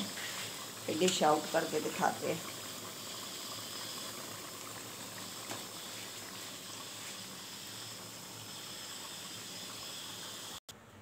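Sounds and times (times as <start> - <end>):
oil sizzling and bubbling: 0.0 - 10.6.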